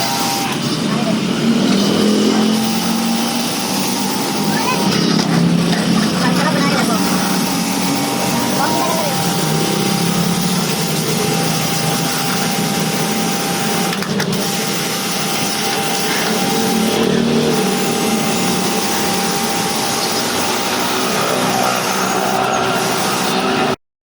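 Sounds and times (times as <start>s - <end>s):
pressure washer motor humming: 0.0s - 23.8s
water jet hissing: 0.0s - 23.8s.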